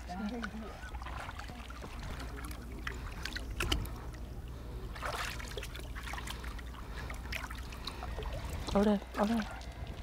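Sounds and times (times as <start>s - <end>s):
low steady hum: 0.0s - 10.0s
shallow water splashing: 0.0s - 10.0s.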